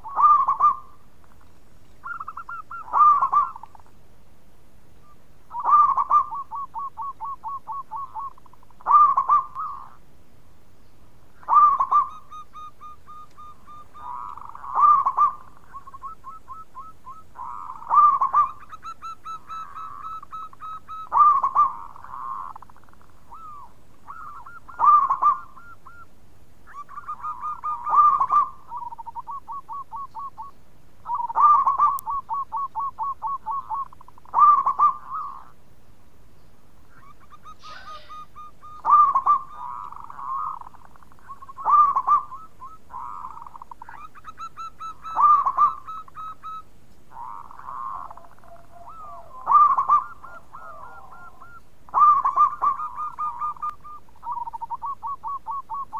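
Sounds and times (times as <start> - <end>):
dove cooing song: 0.0 - 1.1, 2.0 - 4.0, 5.0 - 10.0, 11.4 - 35.6, 36.8 - 55.9.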